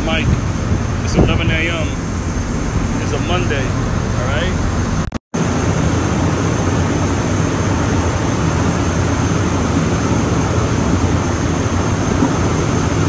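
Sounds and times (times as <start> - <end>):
churning wake water: 0.0 - 13.0
ferry engines droning: 0.0 - 13.0
high whine: 0.0 - 13.0
wind rushing: 0.0 - 13.0.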